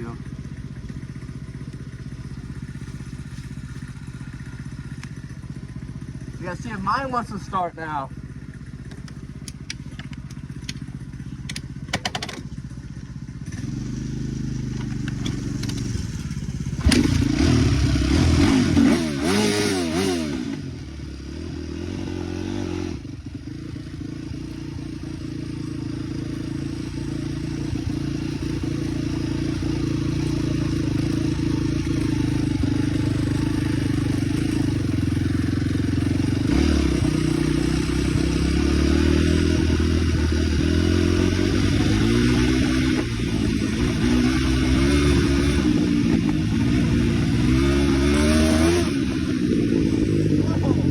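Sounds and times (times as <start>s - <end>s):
dirt bike engine revving: 0.0s - 8.1s, 13.4s - 50.9s.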